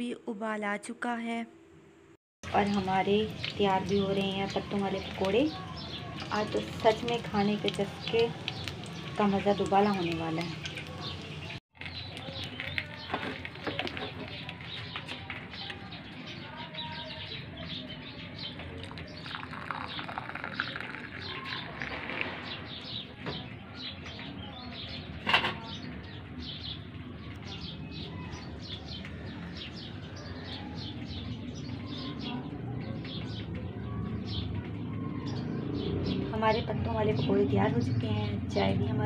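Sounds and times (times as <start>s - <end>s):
birds chirping: 2.4s - 39.0s.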